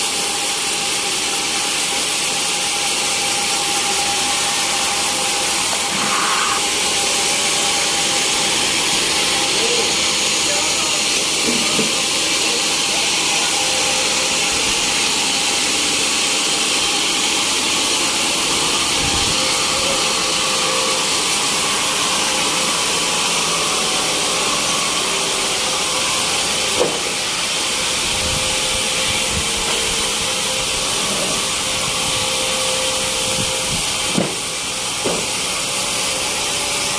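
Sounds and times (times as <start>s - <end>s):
sawmill machinery hissing: 0.0s - 36.9s.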